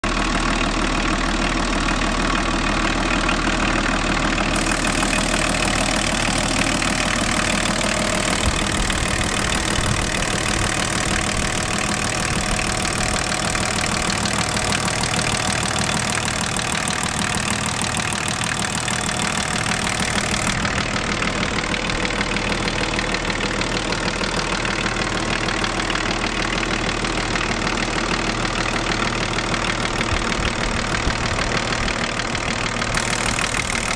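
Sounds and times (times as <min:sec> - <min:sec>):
diesel engine idling: 0:00.0 - 0:33.9
dull engine knocking: 0:00.1 - 0:33.9.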